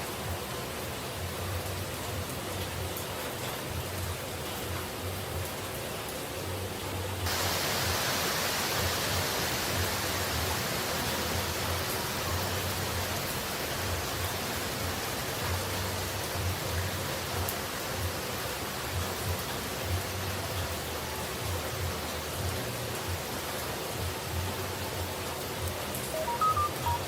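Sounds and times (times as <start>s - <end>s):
falling water rushing: 0.0s - 27.0s.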